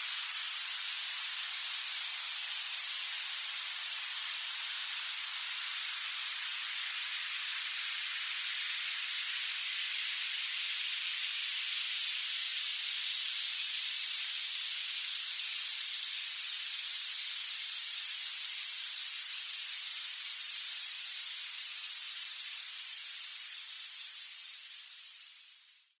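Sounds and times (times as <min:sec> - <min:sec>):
bright electronic hiss: 0:00.0 - 0:26.0.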